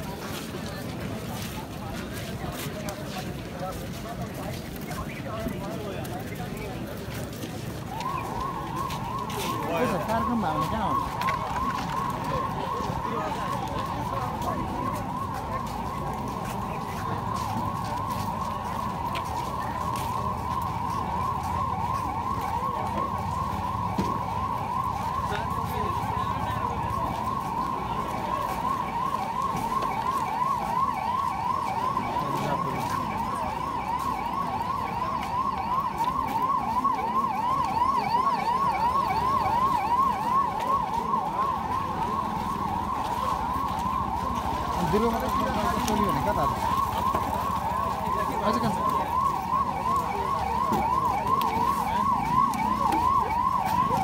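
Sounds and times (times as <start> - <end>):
emergency siren yelping: 0.0 - 54.0.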